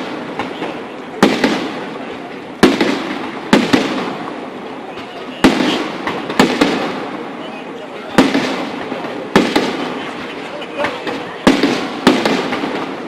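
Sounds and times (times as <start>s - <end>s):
fireworks bangs echoing: 0.0s - 13.0s.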